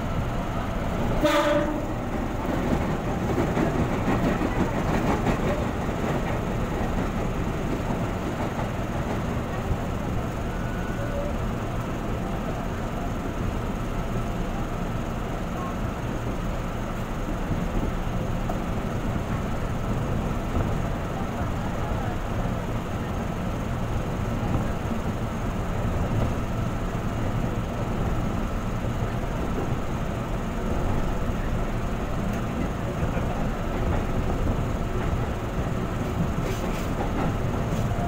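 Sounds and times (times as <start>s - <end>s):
electric train rumbling: 0.0s - 38.0s
oncoming train passing: 0.0s - 38.0s.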